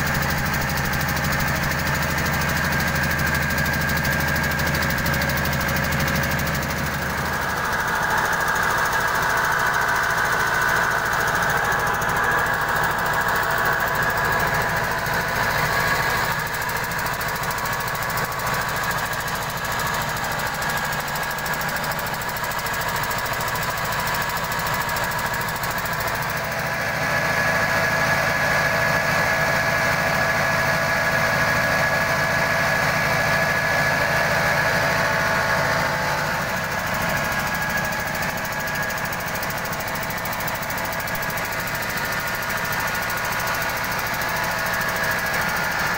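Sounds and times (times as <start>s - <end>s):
diesel engine chugging: 0.0s - 45.9s
rice-milling machine whining: 0.0s - 45.9s.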